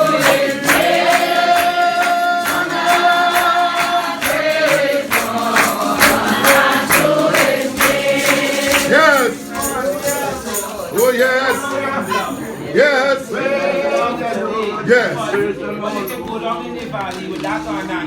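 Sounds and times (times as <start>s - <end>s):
congregation singing a hymn: 0.0s - 16.8s
percussion beats: 0.0s - 18.0s.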